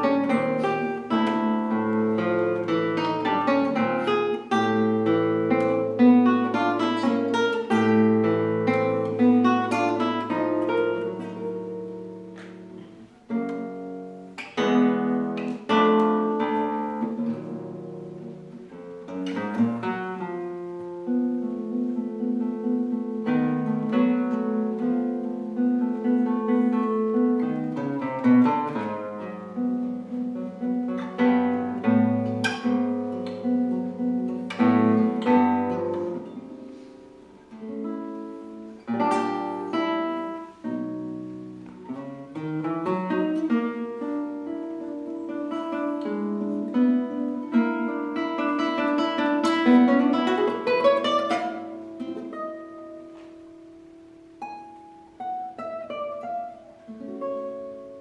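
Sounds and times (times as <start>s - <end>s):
classical guitar playing: 0.0s - 58.0s.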